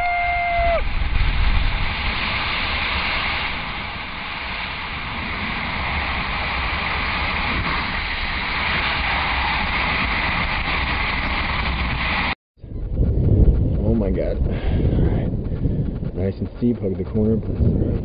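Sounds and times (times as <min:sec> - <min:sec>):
wind rushing over camera: 0:00.0 - 0:18.0.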